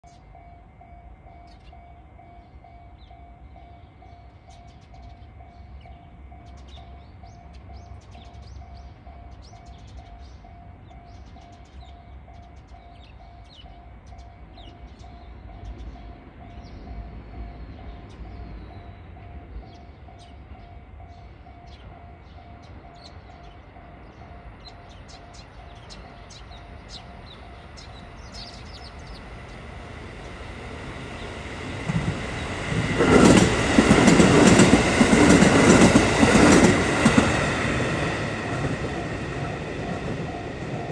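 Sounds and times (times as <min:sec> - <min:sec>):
diesel train passing: 0:00.0 - 0:40.9
level-crossing alarm ringing: 0:00.0 - 0:40.9.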